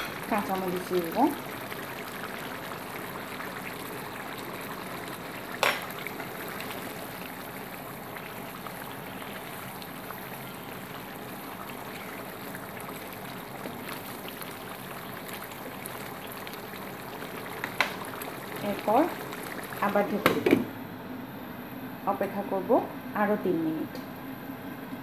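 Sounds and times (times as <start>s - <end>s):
curry bubbling in a pan: 0.0s - 20.1s.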